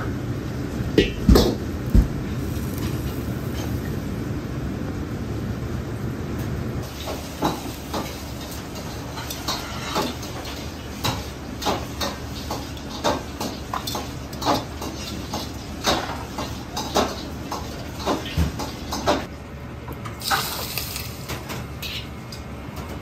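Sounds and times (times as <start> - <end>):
low kitchen hum: 0.0 - 23.0.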